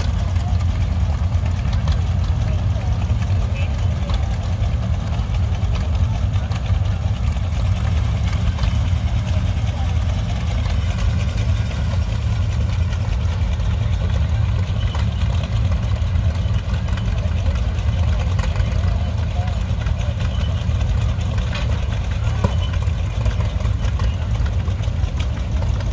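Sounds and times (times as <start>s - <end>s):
faint crowd voices: 0.0s - 25.9s
tractor engines idling: 0.0s - 25.9s.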